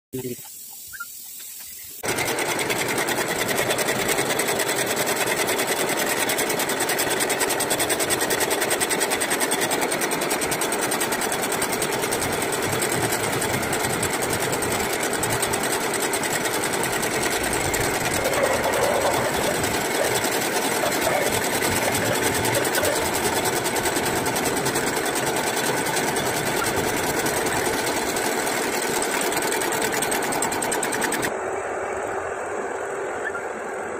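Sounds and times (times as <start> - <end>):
milling cutter chattering on metal: 2.0 - 31.3.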